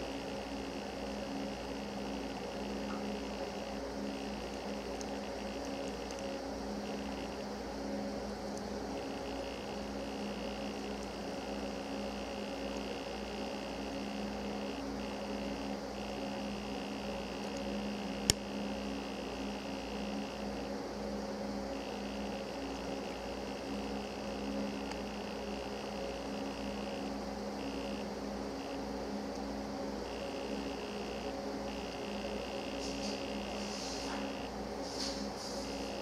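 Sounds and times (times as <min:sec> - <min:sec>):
faint high whine: 0:00.0 - 0:36.0
low electrical hum: 0:00.0 - 0:36.0.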